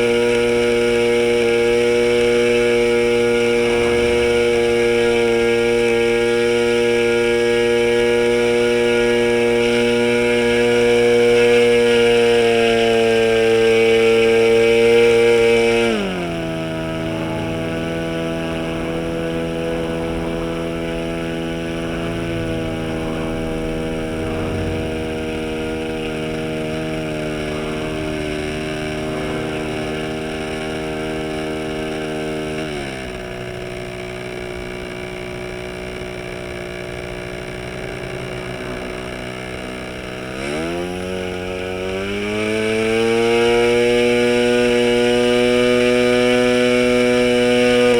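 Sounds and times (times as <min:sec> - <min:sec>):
model engine spinning propeller: 0:00.0 - 0:47.9.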